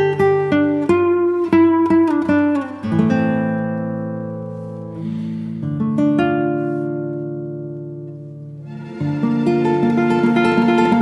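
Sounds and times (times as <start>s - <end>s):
acoustic guitar plucked and strummed: 0.0s - 11.0s.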